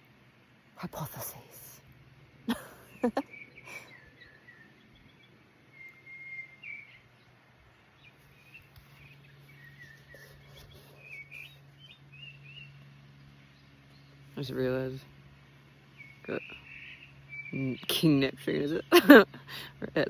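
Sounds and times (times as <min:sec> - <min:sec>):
birds chirping: 0:00.8 - 0:20.0.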